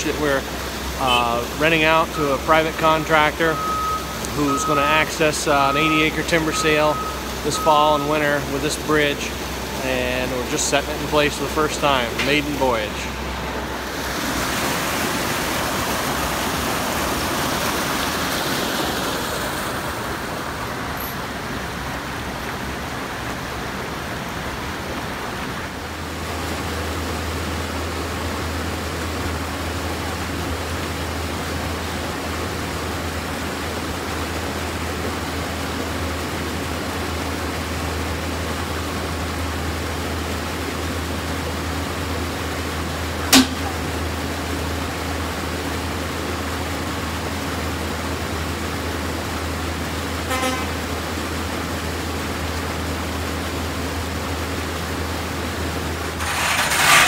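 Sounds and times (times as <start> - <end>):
brook water rushing over rocks: 0.0 - 57.0
diesel engine humming: 0.0 - 57.0.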